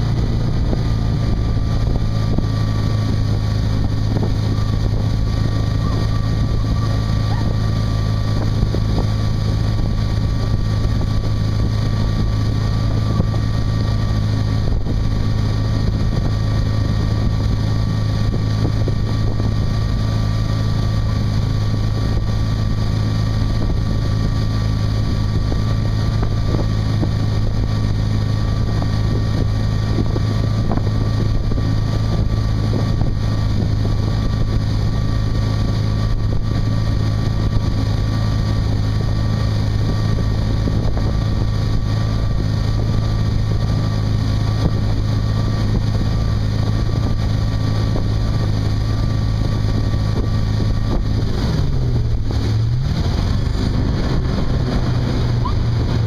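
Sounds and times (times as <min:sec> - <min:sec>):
boat engine droning: 0:00.0 - 0:56.0
wind buffeting microphone: 0:00.0 - 0:56.0.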